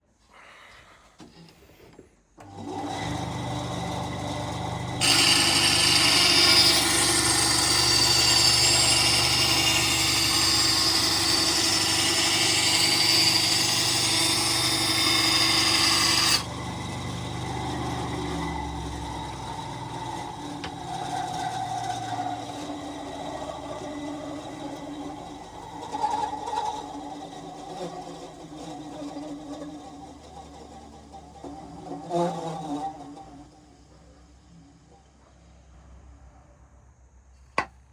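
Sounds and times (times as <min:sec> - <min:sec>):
saw blade cutting wood: 0:02.4 - 0:33.5
band saw motor humming: 0:02.4 - 0:34.0.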